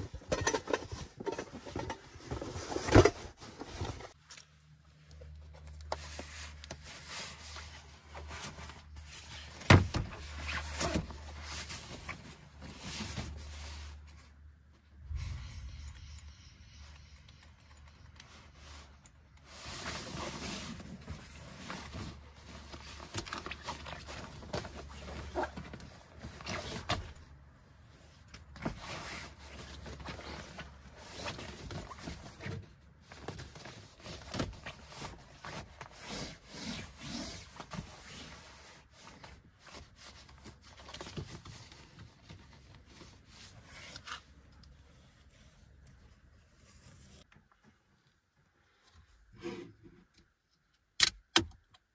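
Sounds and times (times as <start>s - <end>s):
sleeping pad rustling and scraping: 0.0s - 4.2s, 5.9s - 15.9s, 18.3s - 27.2s, 28.0s - 47.3s.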